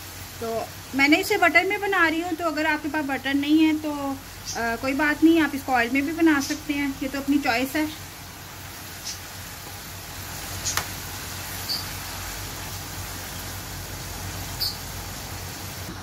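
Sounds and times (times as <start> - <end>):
meat sizzling in butter: 0.0 - 15.9.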